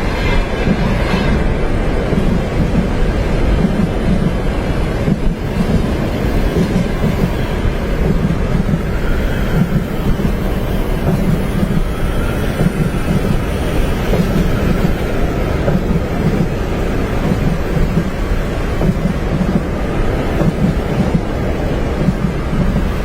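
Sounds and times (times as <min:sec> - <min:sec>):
train rumbling on tracks: 0:00.0 - 0:23.0.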